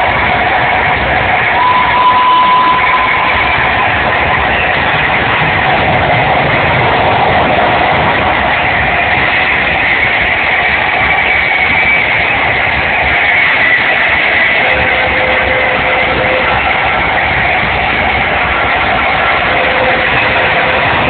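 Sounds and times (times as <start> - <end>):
crowd roaring: 0.0 - 21.0
low rumble from loudspeakers: 0.0 - 21.0.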